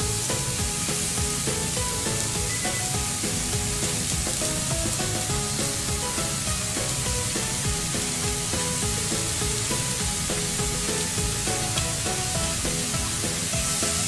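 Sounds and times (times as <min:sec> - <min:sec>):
food sizzling in a hot pan: 0:00.0 - 0:14.0
melodic background music: 0:00.0 - 0:14.0.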